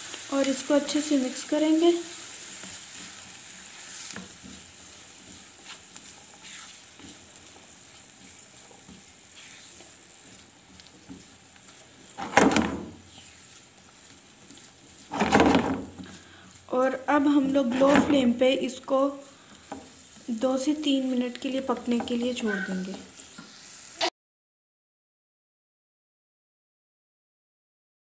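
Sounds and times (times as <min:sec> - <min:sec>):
vegetables sizzling in oil: 0:00.0 - 0:24.1
spatula scraping pan: 0:00.4 - 0:24.0.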